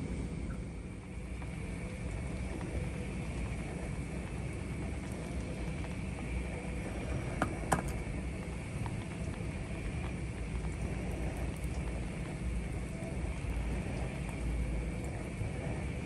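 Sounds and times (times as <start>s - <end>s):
gas stove burning: 0.0s - 16.0s.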